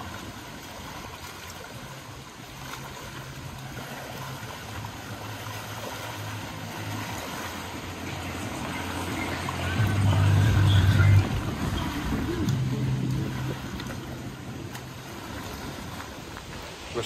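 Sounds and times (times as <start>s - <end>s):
small waves washing over stones: 0.0s - 17.0s.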